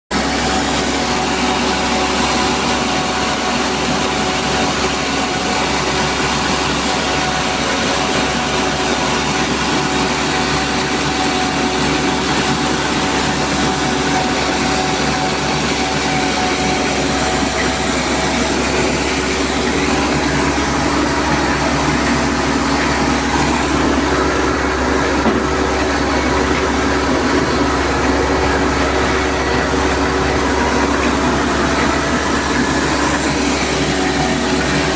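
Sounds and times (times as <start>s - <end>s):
rice milling machine running: 0.1s - 34.9s.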